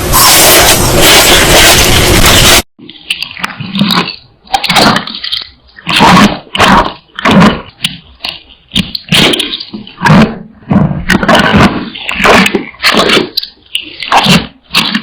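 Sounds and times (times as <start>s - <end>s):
wet chewing and mouth smacking: 2.8s - 15.0s.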